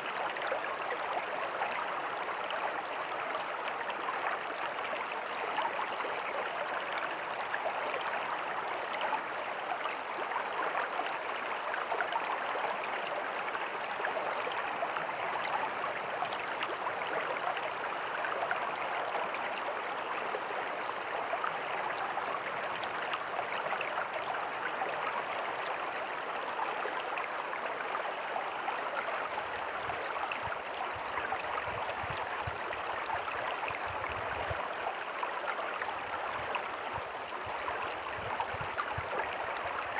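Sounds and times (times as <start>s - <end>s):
creek running over rocks: 0.0s - 39.9s.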